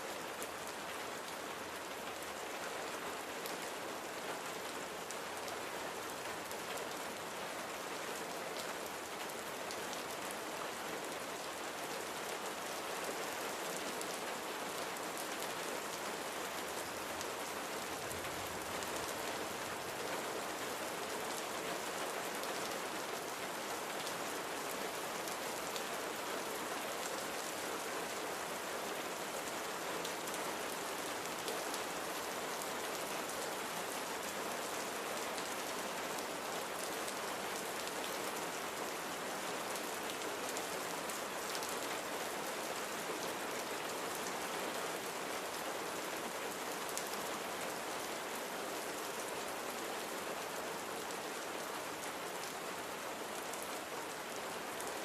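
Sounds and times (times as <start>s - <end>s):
rain falling on a surface: 0.0s - 55.0s.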